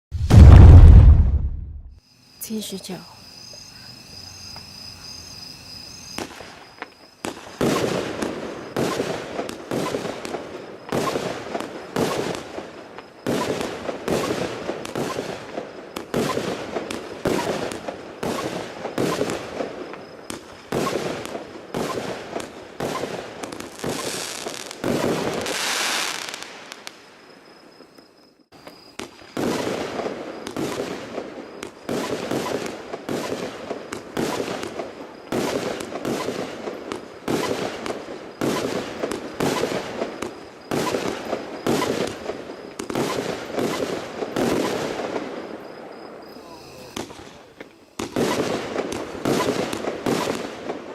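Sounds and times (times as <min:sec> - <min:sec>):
firework sharp shots: 0:00.2 - 0:02.0, 0:07.2 - 0:27.0, 0:29.0 - 0:45.5, 0:46.8 - 0:47.4, 0:48.0 - 0:50.9.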